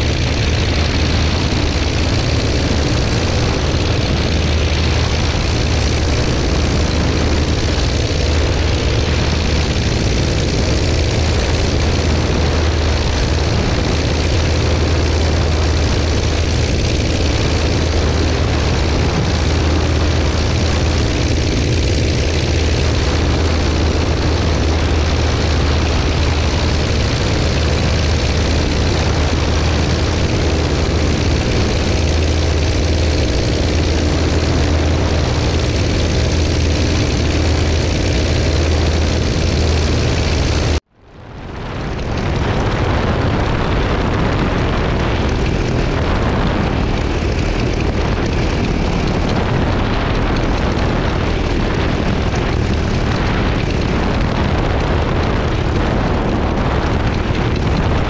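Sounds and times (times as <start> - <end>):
aircraft engine and propeller drone: 0.0 - 58.0.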